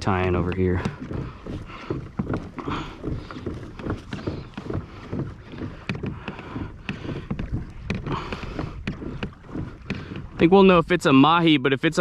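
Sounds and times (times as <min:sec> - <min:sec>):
water slapping against kayak hull: 0:00.0 - 0:12.0.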